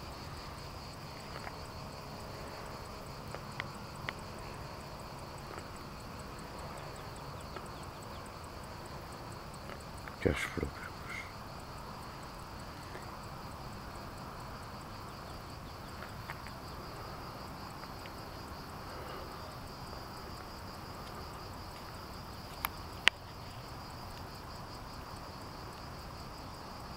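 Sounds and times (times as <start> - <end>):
background hiss: 0.0 - 26.9
crickets chirring: 0.0 - 26.9.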